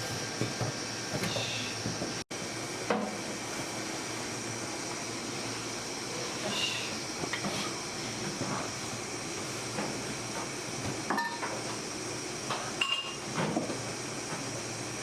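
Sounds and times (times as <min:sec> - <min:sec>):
workshop equipment humming: 0:00.0 - 0:15.0.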